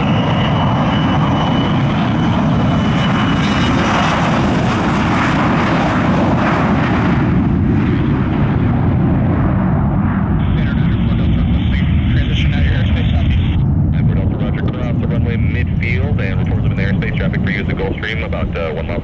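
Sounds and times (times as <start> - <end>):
high turbine whine: 0.0 - 19.0
jet engine roar on takeoff: 0.0 - 19.0.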